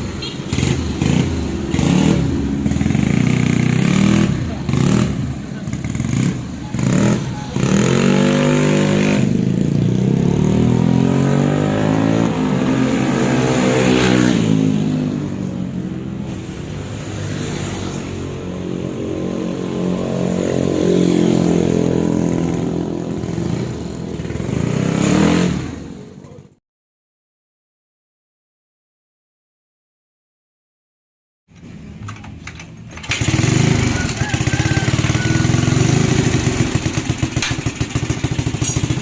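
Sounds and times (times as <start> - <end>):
scooter engine revving: 0.0 - 15.3, 16.0 - 26.3, 32.8 - 39.0.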